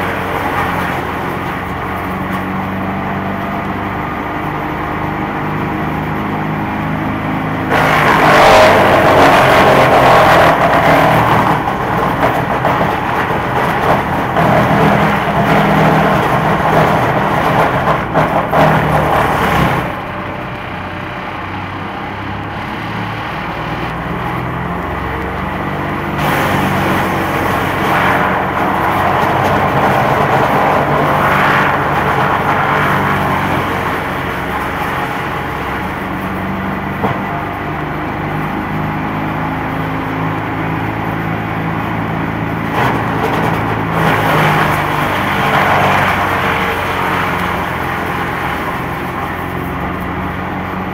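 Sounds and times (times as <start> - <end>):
wood chipper engine running: 0.0 - 50.9.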